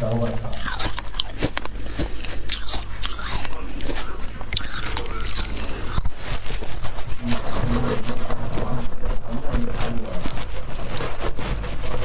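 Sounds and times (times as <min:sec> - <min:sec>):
chewing crunchy frost: 0:00.0 - 0:12.0.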